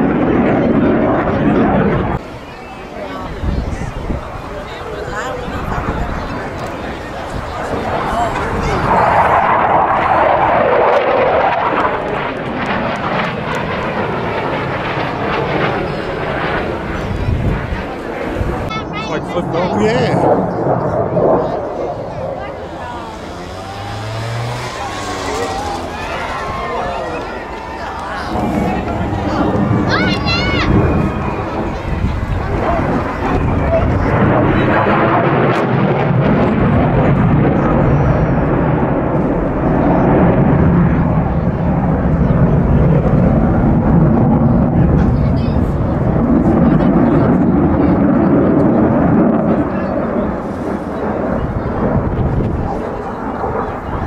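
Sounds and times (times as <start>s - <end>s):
jet flying overhead: 0.0s - 54.0s.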